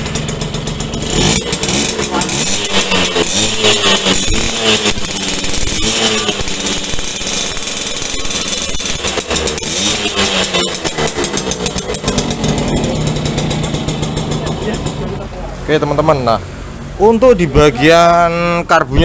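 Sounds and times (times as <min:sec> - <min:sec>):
moped engine revving: 0:00.0 - 0:18.7.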